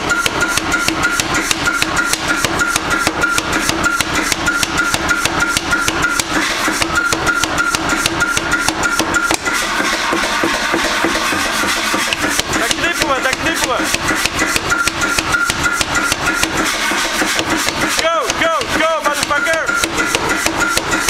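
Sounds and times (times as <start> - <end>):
power hammer striking iron: 0.0 - 21.0.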